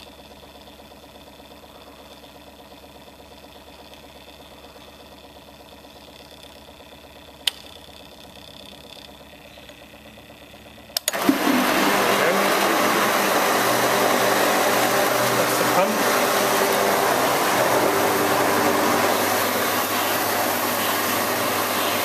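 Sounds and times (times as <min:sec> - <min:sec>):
pump motor rushing: 0:00.0 - 0:22.0
timer motor humming: 0:00.0 - 0:22.0.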